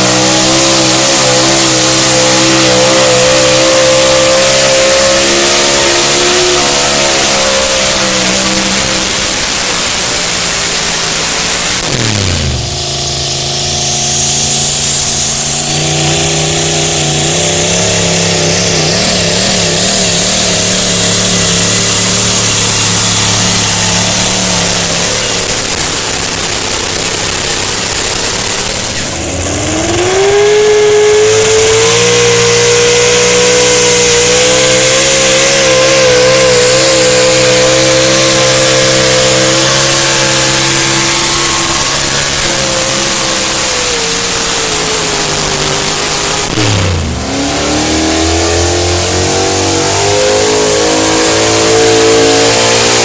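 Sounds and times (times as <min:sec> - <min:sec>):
truck engine at high revs: 0:00.0 - 0:53.0.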